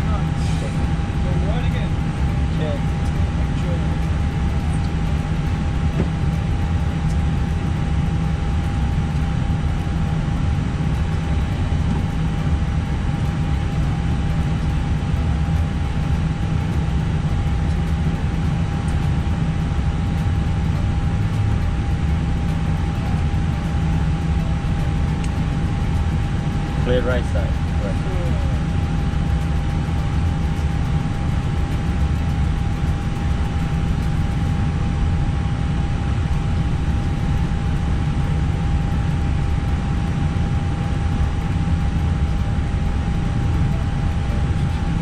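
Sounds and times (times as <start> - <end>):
cockpit engine rumble: 0.0 - 45.0
thin steady whine: 0.0 - 45.0.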